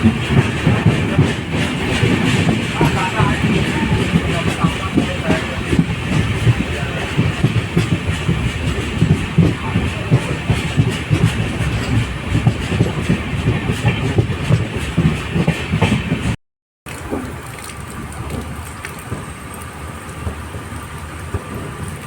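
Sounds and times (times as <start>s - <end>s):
train coach rumbling on track: 0.0s - 22.0s
wheels knocking: 0.0s - 22.0s.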